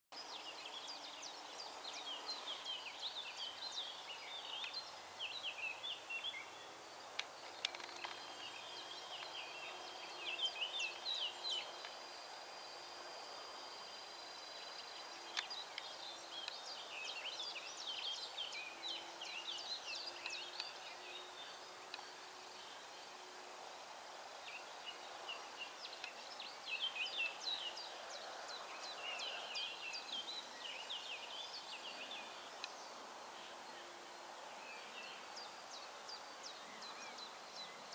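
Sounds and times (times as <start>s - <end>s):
outdoor background hiss: 0.2s - 37.9s
songbird singing: 0.2s - 37.9s.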